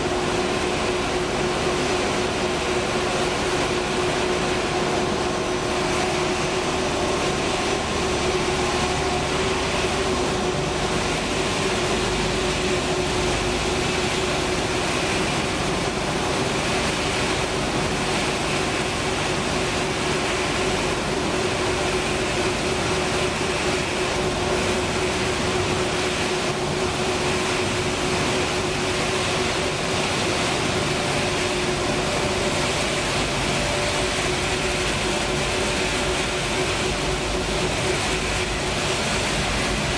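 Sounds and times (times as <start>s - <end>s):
production line machinery humming: 0.0s - 39.9s.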